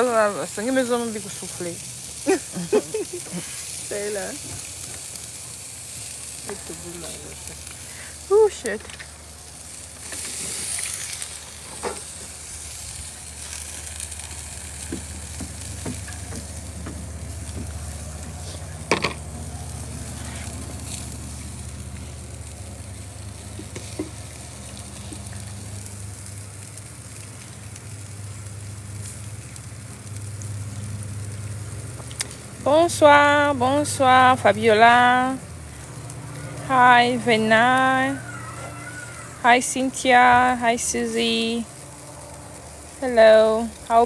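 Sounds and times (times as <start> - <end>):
steady low hum: 0.0 - 38.0
food sizzling in a pan: 0.0 - 44.0.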